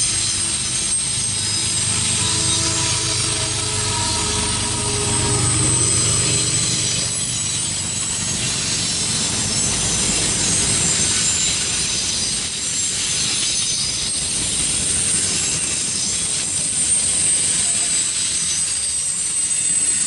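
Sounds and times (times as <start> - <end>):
freight cars rumbling on rails: 0.0 - 19.3.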